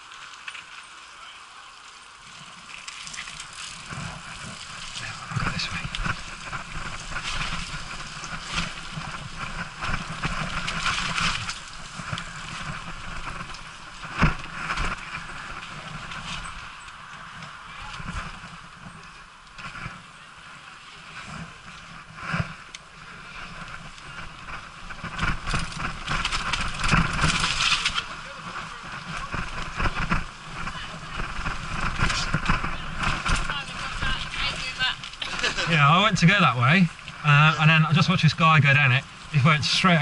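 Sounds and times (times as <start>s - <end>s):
bike tyre and trail noise: 0.0s - 40.0s
bike rattling over bumps: 2.3s - 40.0s
wind rushing over microphone: 3.2s - 40.0s.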